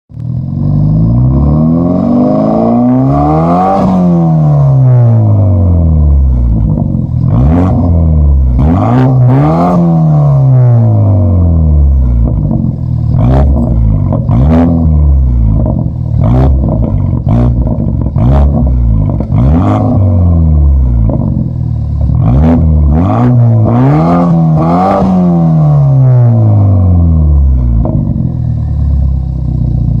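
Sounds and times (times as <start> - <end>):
car engine revving: 0.2 - 30.0.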